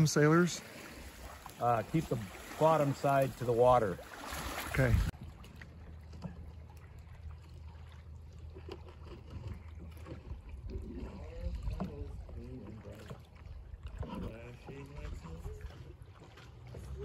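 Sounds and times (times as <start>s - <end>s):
paddle splashes: 0.0s - 17.0s
water lapping: 0.0s - 17.0s.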